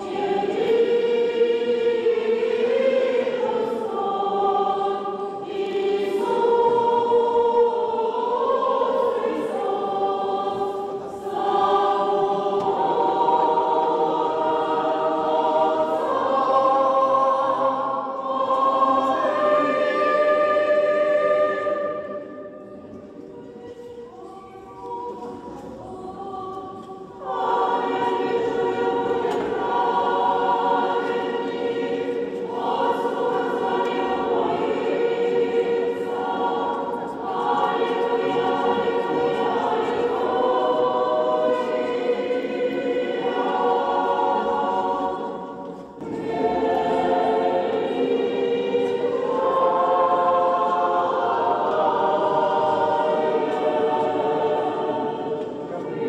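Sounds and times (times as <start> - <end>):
choir singing chant: 0.0 - 56.0.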